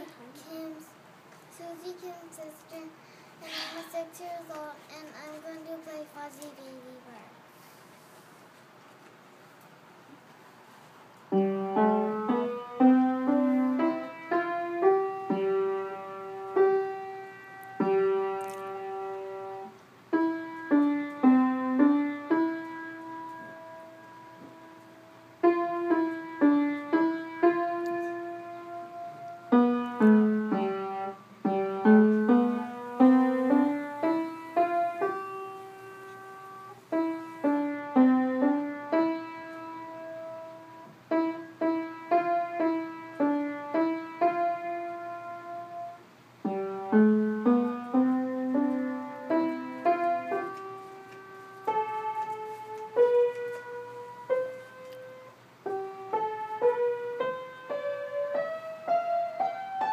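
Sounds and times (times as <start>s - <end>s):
upright piano played by child: 11.2s - 59.9s.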